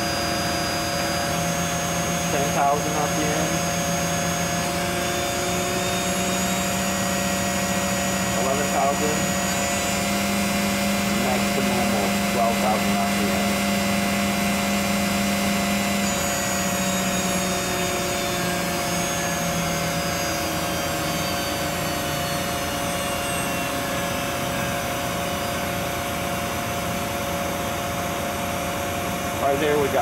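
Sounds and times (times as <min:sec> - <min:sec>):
lathe spindle whine: 0:00.0 - 0:30.0.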